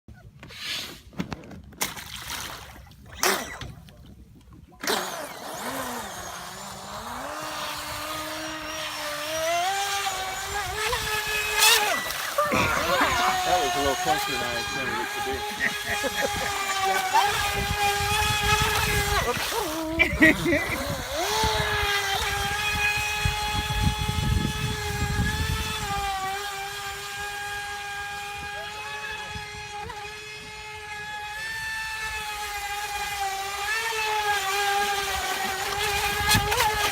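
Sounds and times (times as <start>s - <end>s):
electric motor whine: 4.8s - 36.9s.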